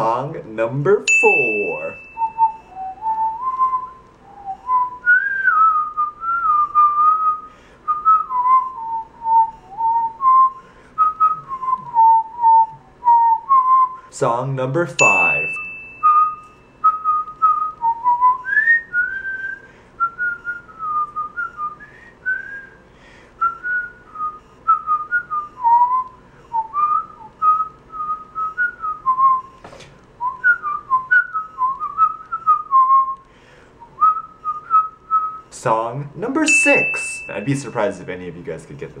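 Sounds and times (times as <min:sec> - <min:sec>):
man whistling a melody: 0:01.3 - 0:14.1, 0:15.0 - 0:22.8, 0:23.4 - 0:29.6, 0:30.2 - 0:33.2, 0:33.8 - 0:35.6.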